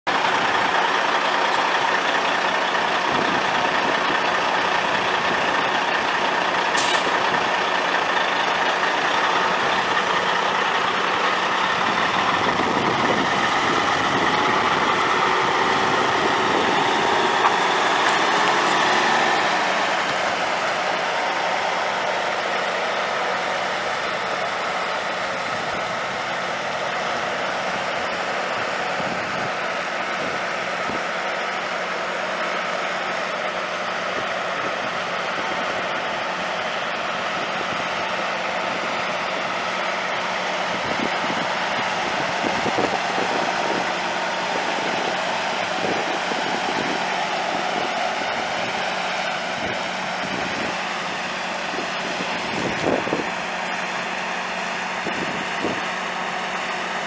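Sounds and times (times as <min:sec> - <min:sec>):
diesel truck engine running: 0:00.1 - 0:57.0.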